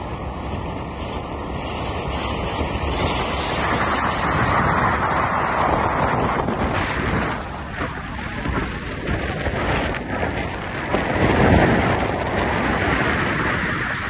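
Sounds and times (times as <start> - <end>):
road traffic noise: 0.0 - 14.0
wind buffeting microphone: 0.0 - 14.0.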